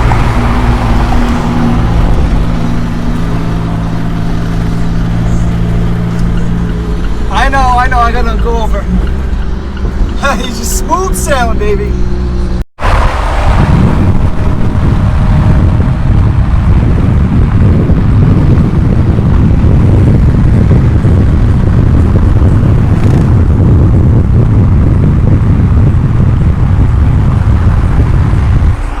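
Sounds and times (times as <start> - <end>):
car engine and road rumble: 0.0 - 29.0
wind buffeting microphone: 0.0 - 29.0.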